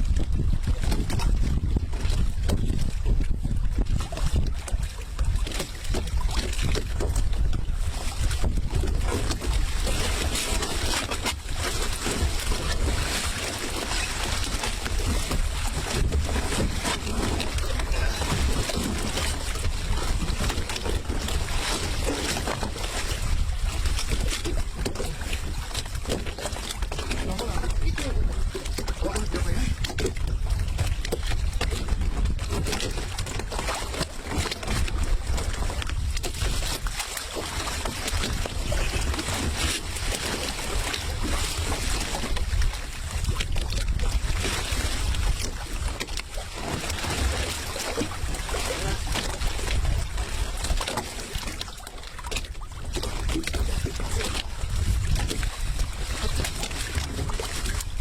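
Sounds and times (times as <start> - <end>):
wind buffeting microphone: 0.0 - 37.0, 38.0 - 50.8, 52.8 - 58.0.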